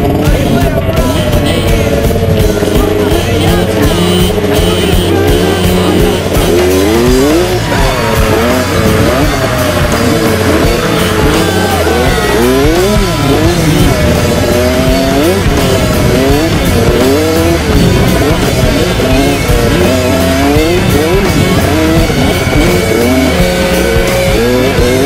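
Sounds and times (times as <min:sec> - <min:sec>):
dirt bike engine revving: 0:00.0 - 0:25.0
music: 0:00.0 - 0:25.0.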